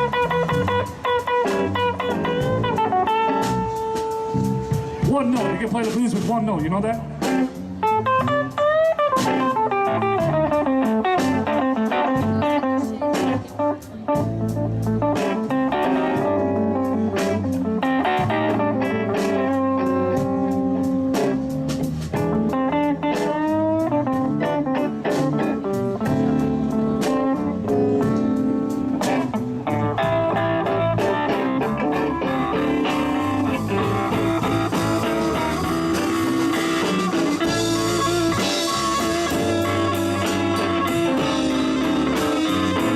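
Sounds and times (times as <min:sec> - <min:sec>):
bass guitar: 0:00.0 - 0:42.9
blues band playing: 0:00.0 - 0:42.9
electric guitar bending notes: 0:00.0 - 0:42.9.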